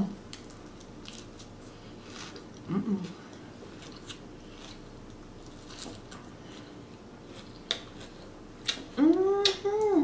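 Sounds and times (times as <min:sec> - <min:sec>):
chewing lettuce: 0:00.3 - 0:10.0.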